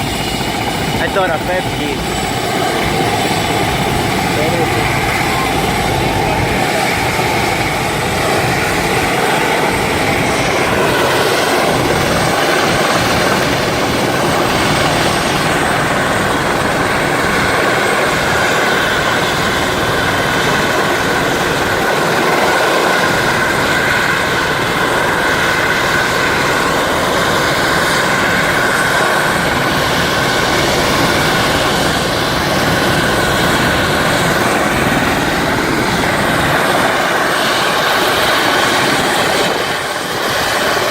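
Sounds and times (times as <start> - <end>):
helicopter rotor and turbine: 0.0 - 40.9
high turbine whine: 0.0 - 40.9.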